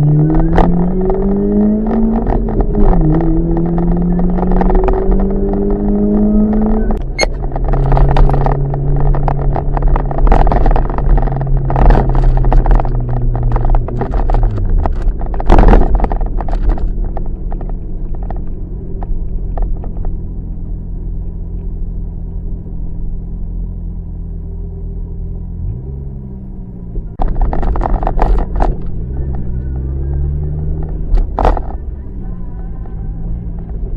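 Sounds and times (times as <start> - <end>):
car engine running: 0.0 - 33.9
road rumble: 0.0 - 33.9.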